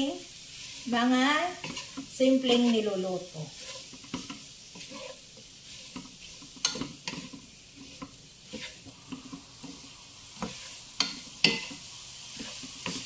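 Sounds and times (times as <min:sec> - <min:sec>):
fruit sizzling in a pan: 0:00.0 - 0:13.0
spoon knocking and scraping pan: 0:01.4 - 0:13.0.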